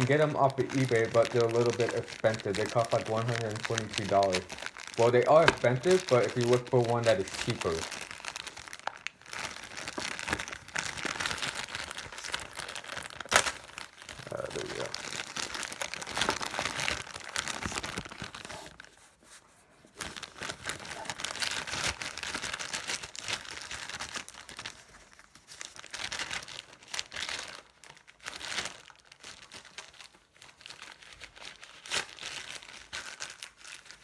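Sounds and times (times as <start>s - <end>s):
packaging crinkling and rustling: 0.0s - 34.0s.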